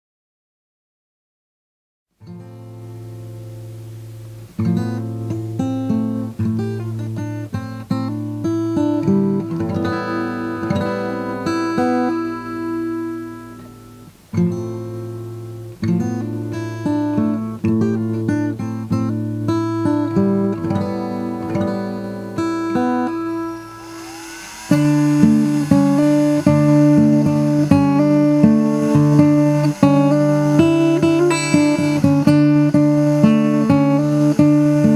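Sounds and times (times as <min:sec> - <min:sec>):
acoustic guitar plucked melody: 0:02.2 - 0:34.9.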